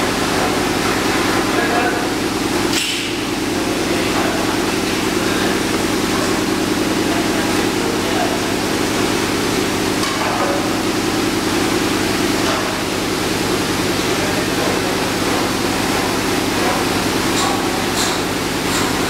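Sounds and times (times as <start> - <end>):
machinery humming: 0.0 - 19.0.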